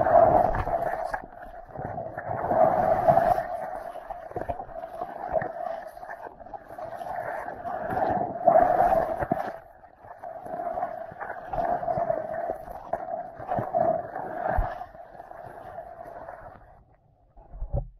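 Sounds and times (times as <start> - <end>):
muffled underwater water rush: 0.0 - 17.9.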